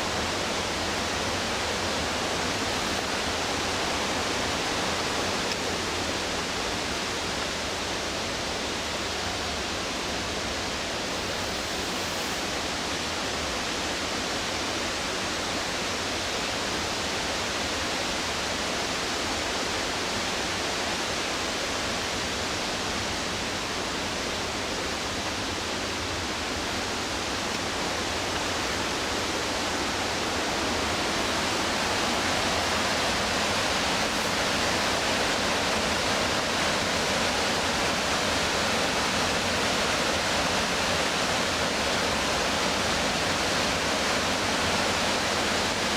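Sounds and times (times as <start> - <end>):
whitewater river rushing: 0.0 - 45.9.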